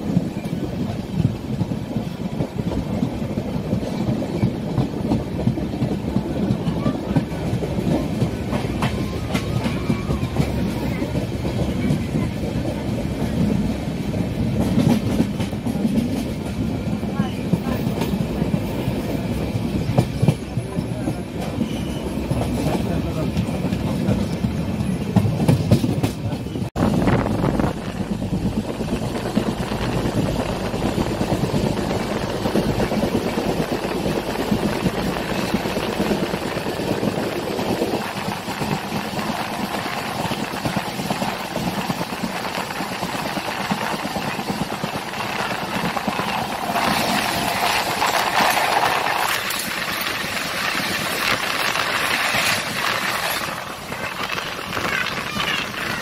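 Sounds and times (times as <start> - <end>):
train coach rumbling and rattling: 0.0 - 56.0.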